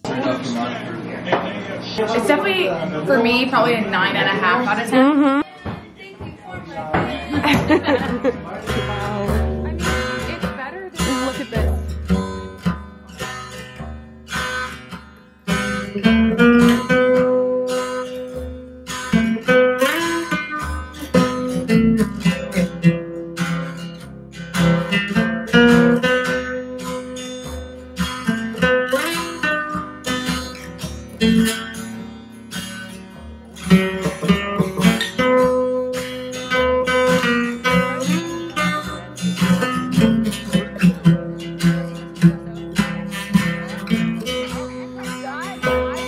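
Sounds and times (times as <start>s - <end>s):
acoustic guitar picked and strummed: 0.0s - 46.0s.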